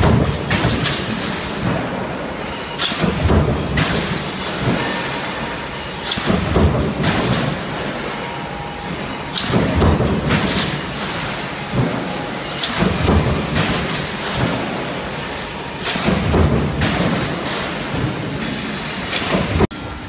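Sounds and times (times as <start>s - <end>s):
stamping press bursts: 0.0s - 19.7s.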